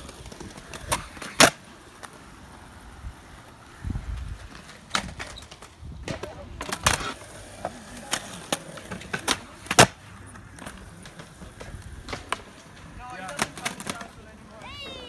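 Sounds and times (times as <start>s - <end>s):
skateboard clacking on concrete: 0.0s - 2.4s, 3.4s - 15.0s
skateboard wheels rolling on concrete: 0.0s - 15.0s.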